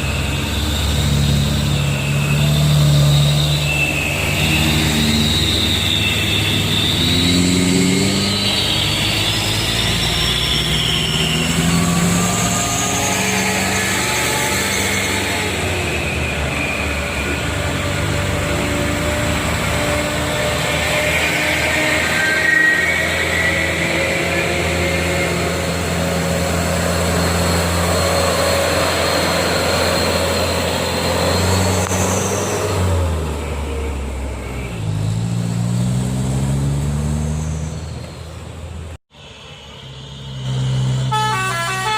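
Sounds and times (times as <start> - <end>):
truck diesel engines under load: 0.0 - 41.9.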